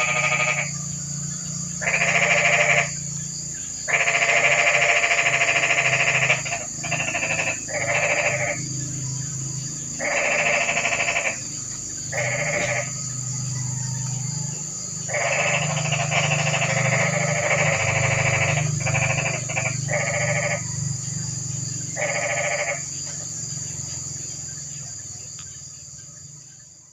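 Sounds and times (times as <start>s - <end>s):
frogs croaking: 0.0s - 26.9s
high-pitched insect drone: 0.0s - 26.9s.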